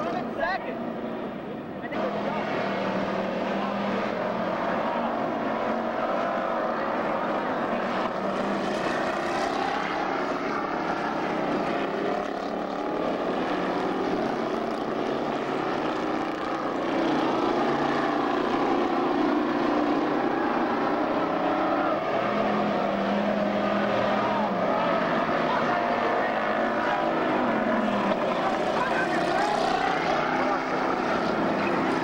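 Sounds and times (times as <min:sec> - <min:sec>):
stock car engines racing: 0:00.0 - 0:32.0.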